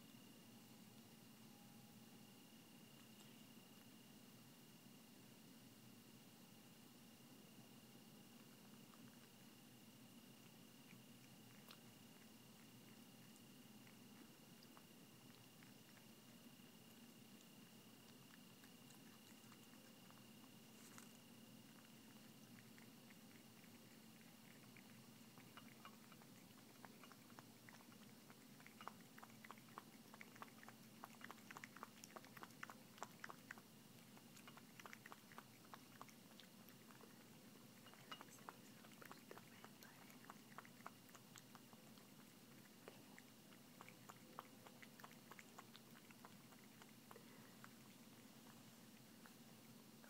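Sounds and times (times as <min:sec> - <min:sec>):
steady low hum: 0:00.0 - 0:50.0
cat lapping and chewing: 0:06.2 - 0:50.0.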